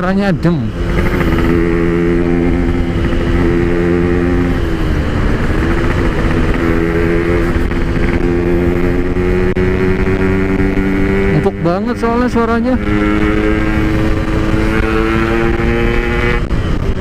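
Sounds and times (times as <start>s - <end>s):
two-stroke motorcycle engine: 0.0s - 17.0s.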